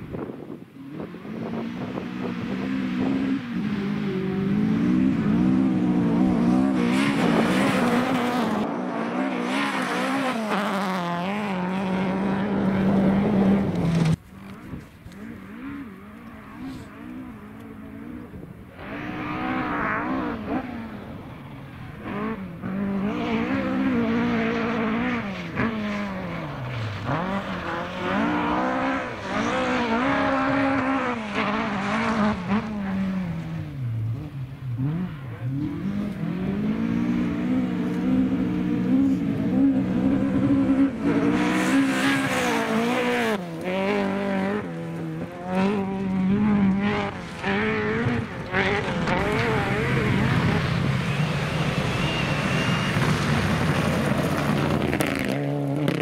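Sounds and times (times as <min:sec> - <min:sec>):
rally car engine revving: 0:00.8 - 0:56.0.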